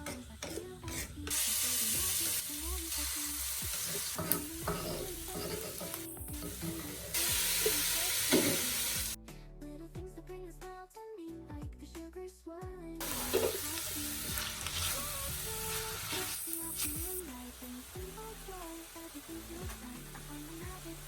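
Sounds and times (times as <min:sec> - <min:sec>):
food sizzling in hot oil: 0:00.0 - 0:09.2, 0:13.0 - 0:21.0
soft background music: 0:00.0 - 0:21.0.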